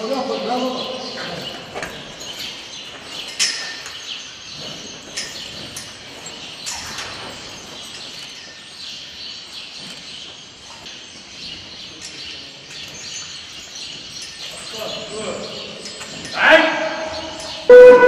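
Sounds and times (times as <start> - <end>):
small birds chirping: 0.0 - 17.7
barn background noise: 0.0 - 17.9.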